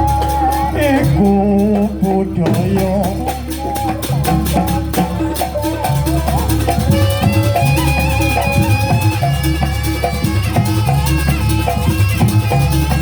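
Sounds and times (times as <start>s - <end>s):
drumming: 0.0s - 13.0s
traditional ensemble melody: 0.0s - 13.0s.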